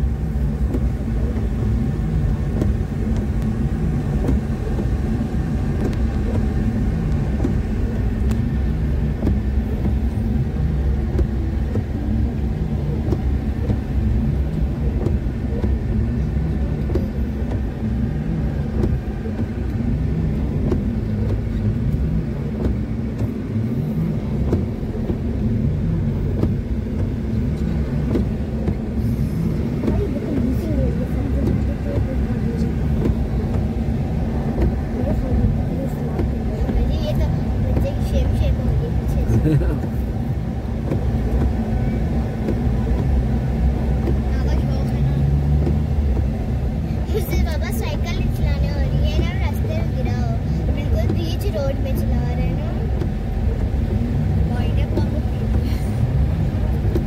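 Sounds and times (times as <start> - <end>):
car engine running: 0.0 - 57.0
low road rumble: 0.0 - 57.0.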